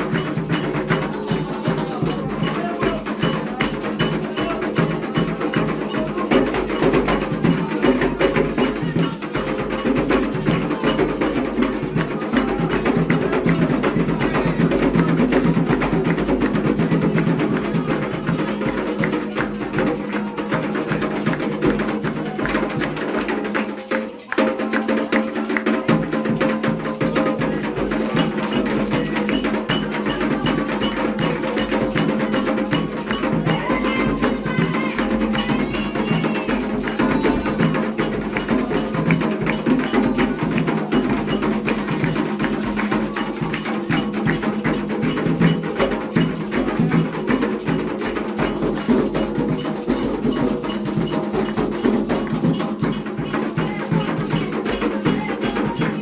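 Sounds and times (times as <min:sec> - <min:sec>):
hand drums playing: 0:00.0 - 0:56.0.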